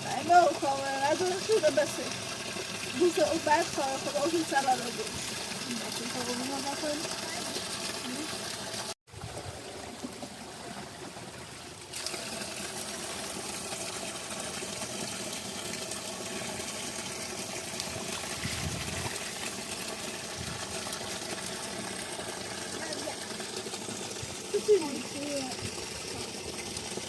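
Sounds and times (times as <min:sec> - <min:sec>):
running spring water: 0:00.0 - 0:27.0.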